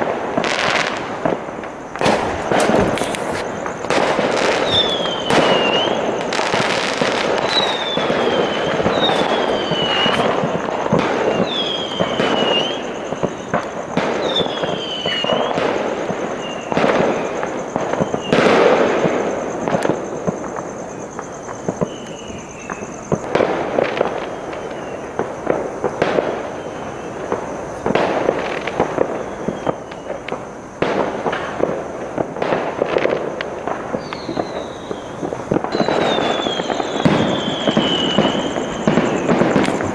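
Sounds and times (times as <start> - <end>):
fireworks bangs and crackles: 0.0 - 39.9
whistling fireworks: 0.0 - 39.9.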